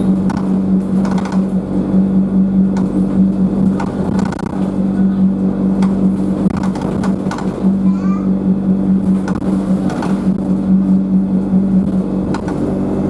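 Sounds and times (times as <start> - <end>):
rattles and clicks: 0.0 - 1.9, 2.7 - 8.0, 8.9 - 12.8
bus diesel engine drone: 0.0 - 13.0.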